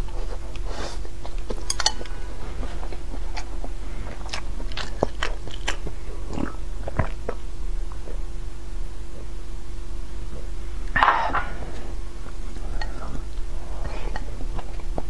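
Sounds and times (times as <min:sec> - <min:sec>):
person chewing: 0:00.0 - 0:08.2, 0:10.8 - 0:15.0
faint hum: 0:00.0 - 0:15.0.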